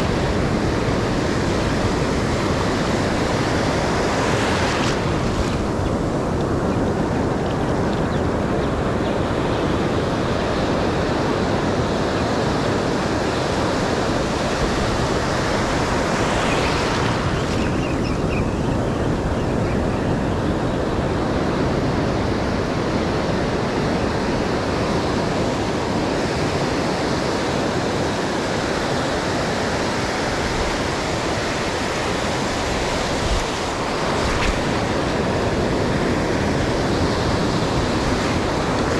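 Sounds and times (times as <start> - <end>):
ocean surf breaking: 0.0 - 38.9
wind rumble on microphone: 0.0 - 38.9.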